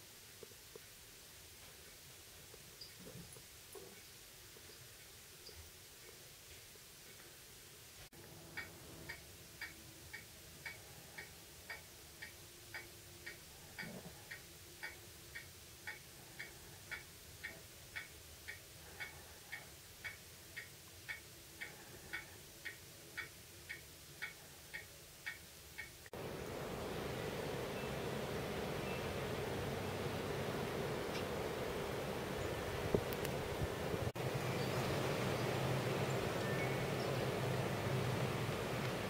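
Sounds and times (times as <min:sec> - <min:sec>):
quiet steady ticking: 0:01.6 - 0:07.4, 0:08.0 - 0:34.4, 0:35.3 - 0:39.0.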